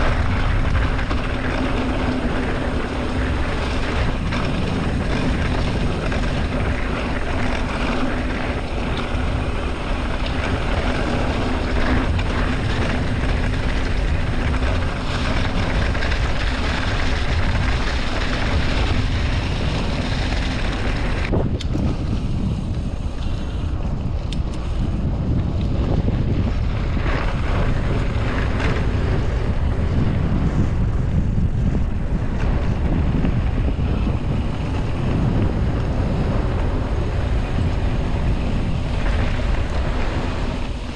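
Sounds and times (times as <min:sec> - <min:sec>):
constant low rumble: 0:00.0 - 0:40.9
steady hum: 0:00.0 - 0:40.9
wind buffeting microphone: 0:00.0 - 0:40.9.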